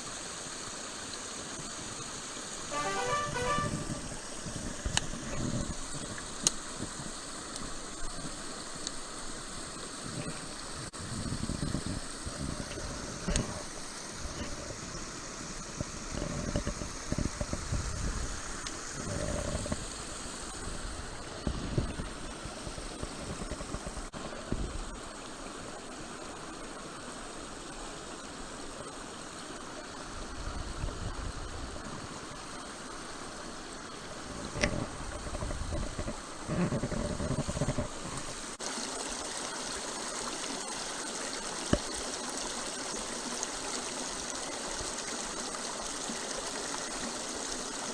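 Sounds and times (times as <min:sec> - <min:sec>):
stream running over rocks: 0:00.0 - 0:47.9.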